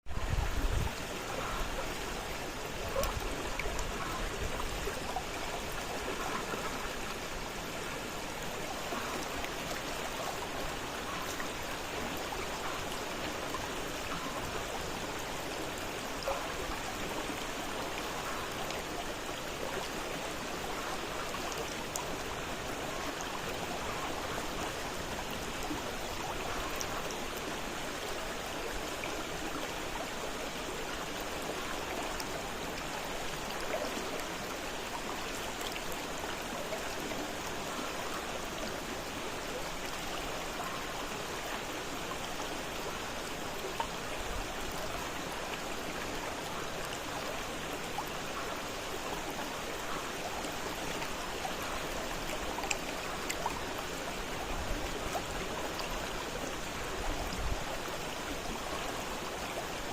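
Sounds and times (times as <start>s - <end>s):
river water rushing: 0.1s - 59.9s.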